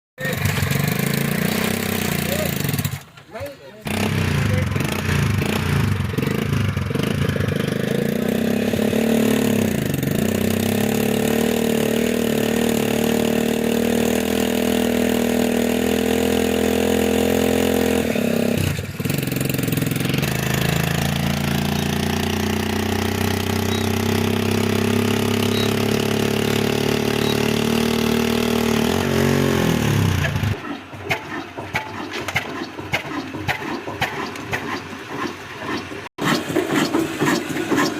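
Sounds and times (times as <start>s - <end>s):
engine running: 0.2s - 37.9s
rough uneven engine noise: 0.2s - 37.9s.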